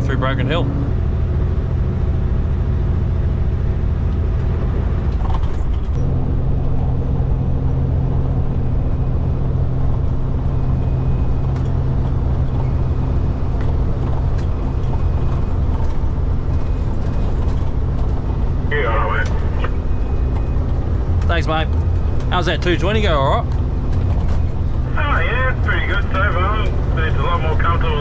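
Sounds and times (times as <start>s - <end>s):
diesel truck engine running: 0.0s - 28.0s
tyre and road noise: 0.0s - 28.0s.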